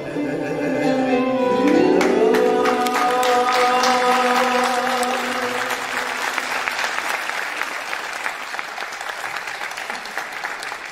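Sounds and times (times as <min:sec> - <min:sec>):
audience applauding: 0:01.6 - 0:10.9.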